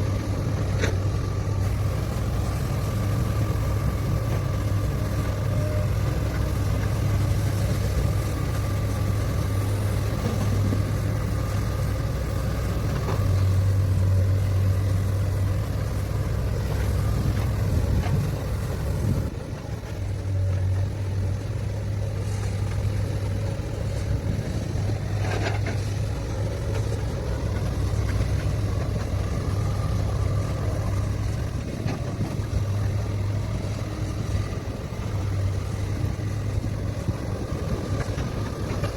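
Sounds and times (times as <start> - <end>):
diesel earthmoving machinery droning: 0.0 - 38.9.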